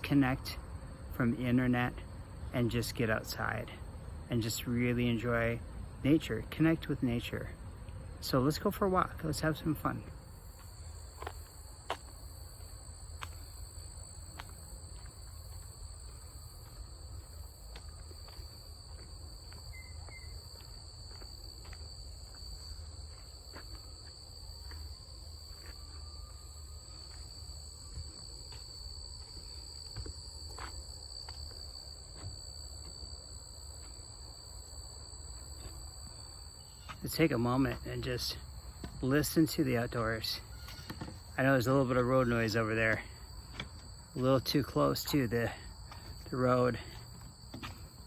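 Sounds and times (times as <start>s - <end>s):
crickets chirring: 0.0s - 48.0s
distant road noise: 0.0s - 48.0s.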